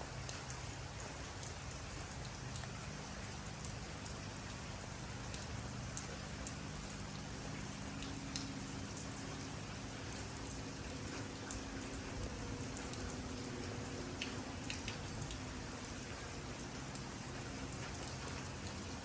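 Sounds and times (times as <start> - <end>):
steady rain: 0.0 - 19.0
raindrops ticking: 0.1 - 19.0.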